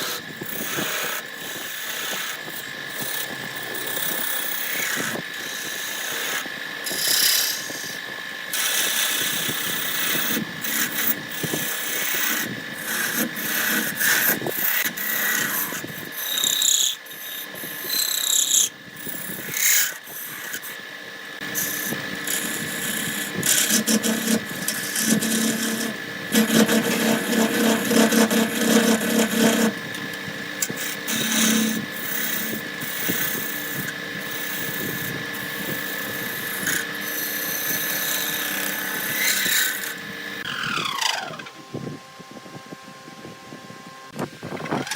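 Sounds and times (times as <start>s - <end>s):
turning tool cutting wood: 0.0s - 41.6s
wood lathe whining: 0.0s - 44.9s.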